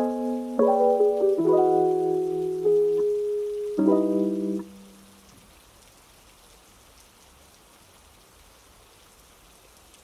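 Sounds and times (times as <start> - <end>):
light raindrops: 0.0 - 10.0
rain hiss: 0.0 - 10.0.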